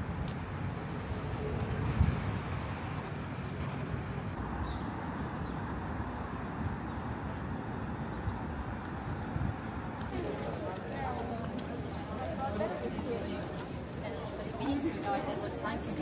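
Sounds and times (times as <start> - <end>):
distant traffic: 0.0 - 16.0
street bustle: 0.0 - 16.0.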